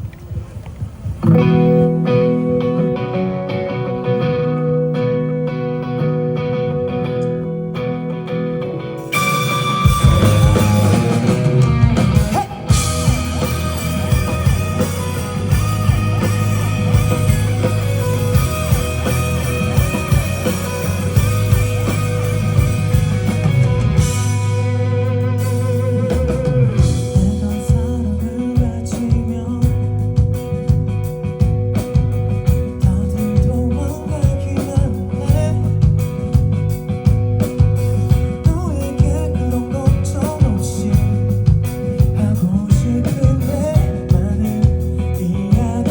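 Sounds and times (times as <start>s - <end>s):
electric guitar: 0.1s - 45.9s
bass line: 1.2s - 45.9s
drum kit: 9.0s - 45.9s.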